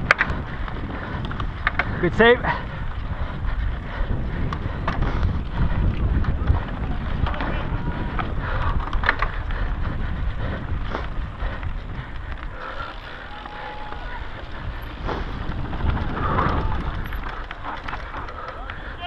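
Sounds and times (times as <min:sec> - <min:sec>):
bike rattling and clicking: 0:00.0 - 0:19.0
wind rumbling on microphone: 0:00.0 - 0:19.0.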